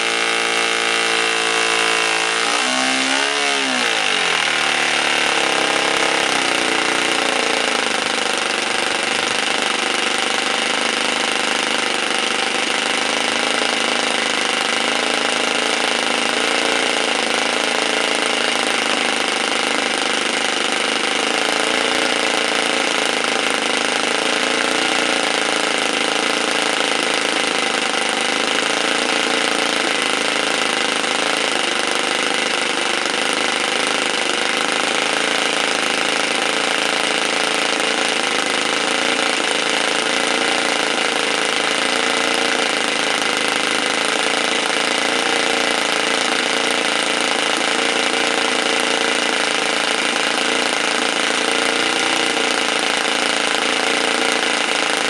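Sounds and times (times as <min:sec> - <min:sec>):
twin-cylinder model engine running: 0:00.0 - 0:55.0.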